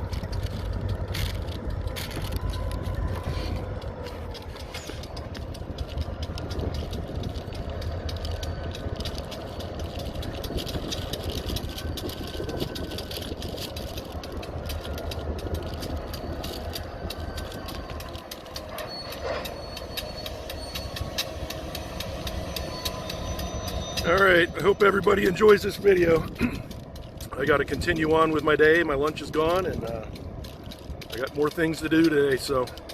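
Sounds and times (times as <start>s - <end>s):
turbocharger whine: 0.0s - 30.4s
locomotive engine rumble: 0.0s - 32.9s
train cars clicking and clanking: 0.0s - 32.9s.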